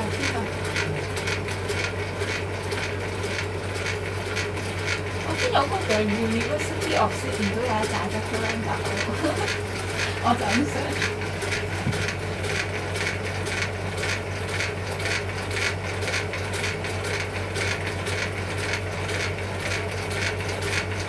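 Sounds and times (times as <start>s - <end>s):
electric motor humming: 0.0s - 21.0s
rapid clicking of linkage: 0.0s - 21.0s.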